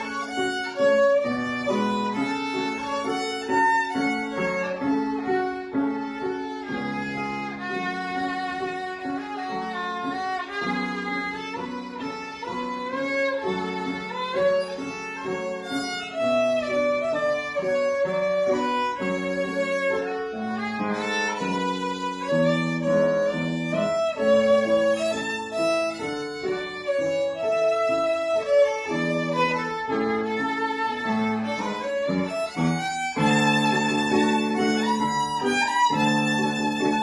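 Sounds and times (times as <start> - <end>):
violin playing a melody: 0.0 - 37.0.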